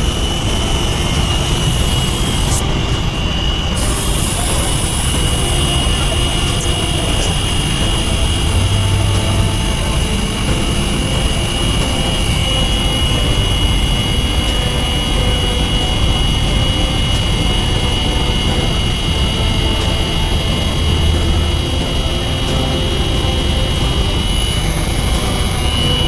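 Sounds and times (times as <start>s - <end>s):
machine whining loudly: 0.0s - 26.0s.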